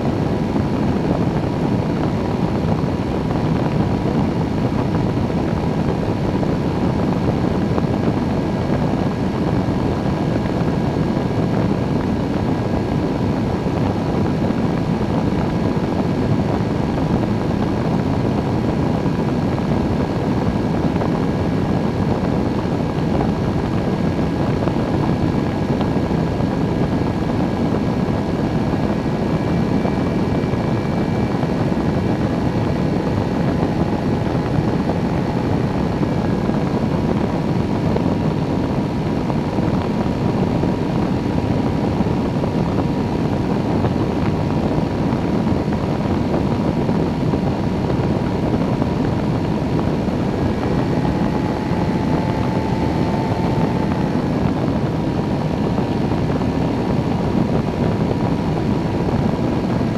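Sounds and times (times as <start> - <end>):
engine and propeller droning: 0.0 - 59.9
rush of air: 0.0 - 59.9.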